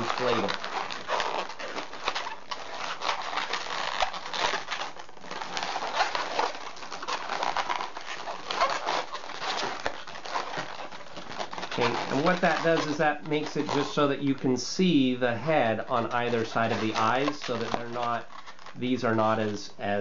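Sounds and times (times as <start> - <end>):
balloons squeaking and rubbing: 0.0 - 20.0.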